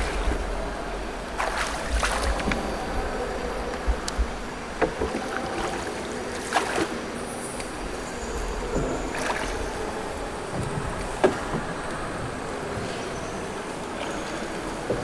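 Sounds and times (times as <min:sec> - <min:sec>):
water sloshing: 0:00.0 - 0:15.0.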